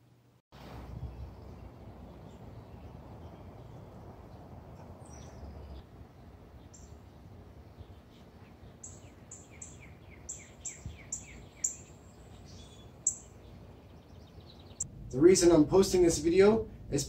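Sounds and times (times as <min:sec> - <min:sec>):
songbird singing: 0:00.6 - 0:17.0
low background rumble: 0:00.8 - 0:17.0.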